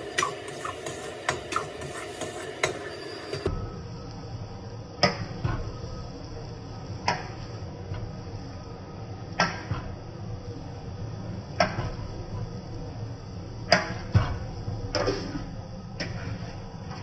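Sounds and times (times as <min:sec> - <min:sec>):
gas burner roar: 0:00.0 - 0:17.0.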